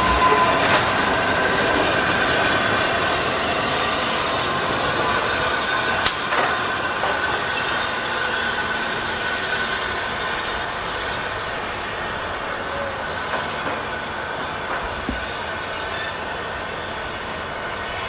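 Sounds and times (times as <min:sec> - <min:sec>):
steam hissing: 0:00.0 - 0:18.0
steam locomotive pulling away: 0:00.0 - 0:18.0.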